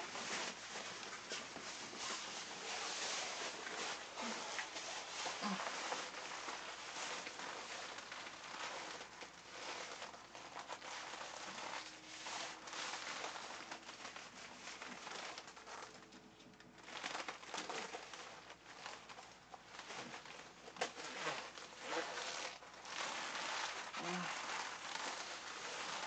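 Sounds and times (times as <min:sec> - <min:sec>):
fabric rustling and crinkling: 0:00.0 - 0:26.0.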